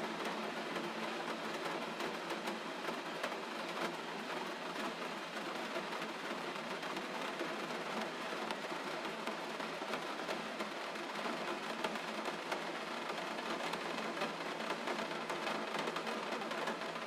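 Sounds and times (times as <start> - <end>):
gentle rain falling: 0.0 - 17.0.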